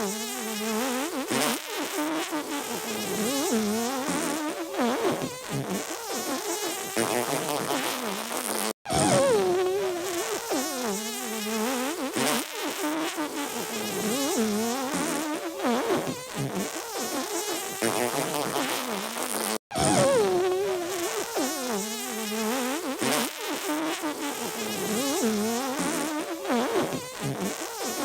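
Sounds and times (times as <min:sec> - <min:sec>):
cartoon fart sound effects: 0:00.0 - 0:28.0.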